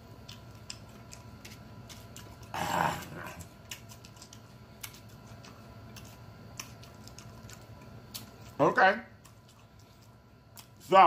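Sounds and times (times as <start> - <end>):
man chewing with wet mouth clicks: 0.0 - 8.6, 9.2 - 10.8.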